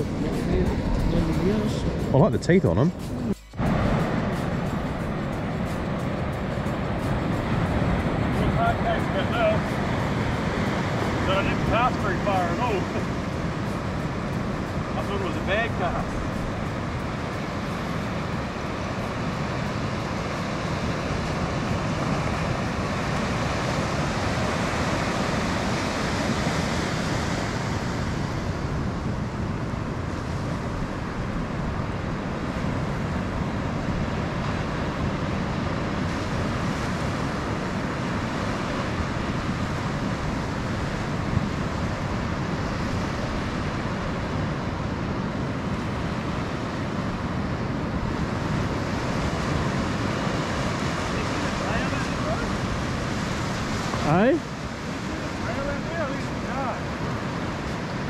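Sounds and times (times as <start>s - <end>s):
wind on microphone: 0.0s - 58.0s
surf breaking on beach: 3.6s - 58.0s.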